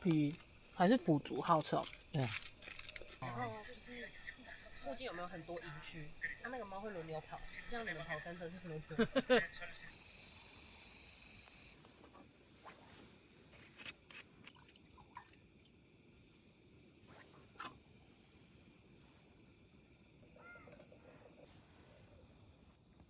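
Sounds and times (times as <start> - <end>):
faint high-pitched hiss: 0.0 - 23.0.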